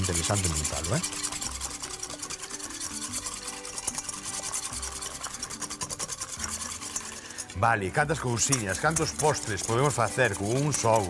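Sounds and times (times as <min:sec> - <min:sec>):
wire whisk scraping metal bowl: 0:00.0 - 0:11.0.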